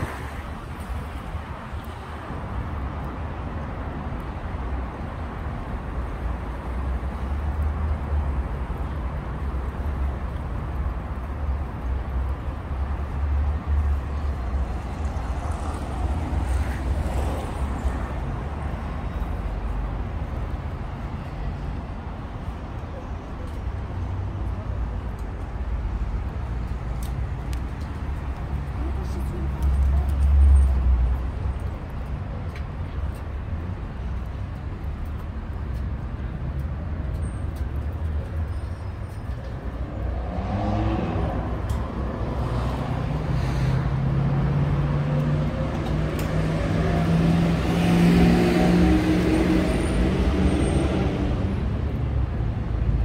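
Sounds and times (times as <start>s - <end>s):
traffic noise: 0.0s - 53.0s.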